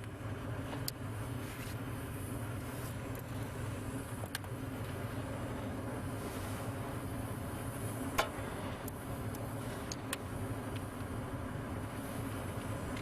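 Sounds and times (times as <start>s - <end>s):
gas furnace humming: 0.0s - 13.0s.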